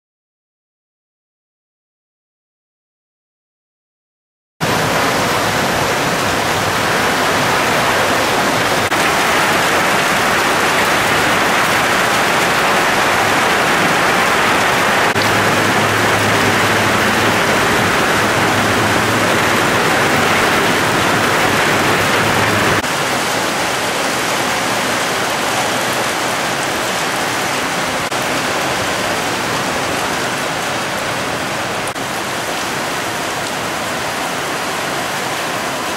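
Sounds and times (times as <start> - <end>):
heavy rain pouring: 4.6 - 35.9.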